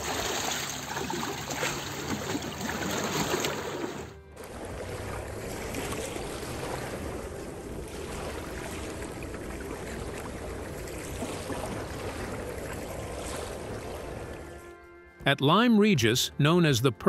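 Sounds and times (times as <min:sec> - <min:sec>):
wind: 0:00.0 - 0:15.4
sea rushing: 0:00.0 - 0:16.9.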